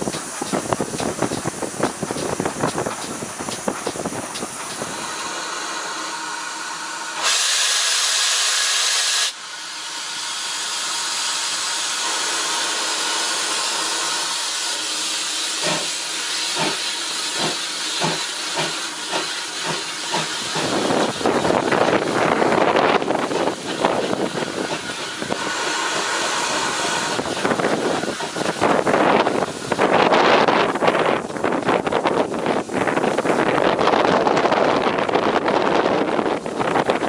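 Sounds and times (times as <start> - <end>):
steam blowing off: 0.0 - 37.0
steam hissing: 0.0 - 37.0
steam locomotive exhaust chuffs: 0.0 - 37.0.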